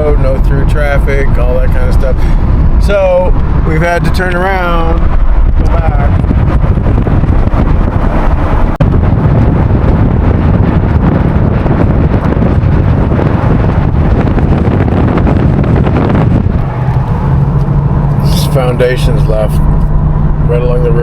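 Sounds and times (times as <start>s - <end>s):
car engine: 0.0s - 21.0s
road noise: 0.0s - 21.0s
wind buffeting microphone: 0.0s - 21.0s.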